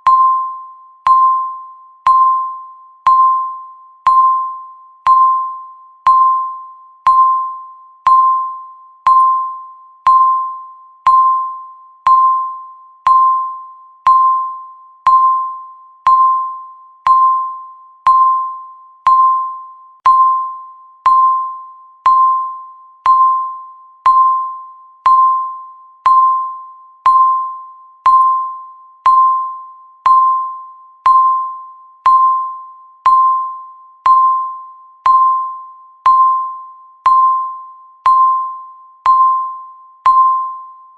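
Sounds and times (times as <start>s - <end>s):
bell-like timer pings: 0.0s - 40.9s.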